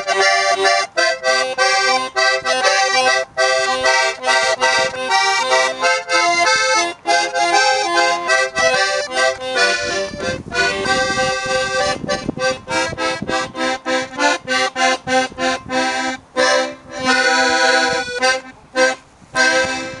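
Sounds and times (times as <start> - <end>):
accordion playing chords: 0.0 - 20.0.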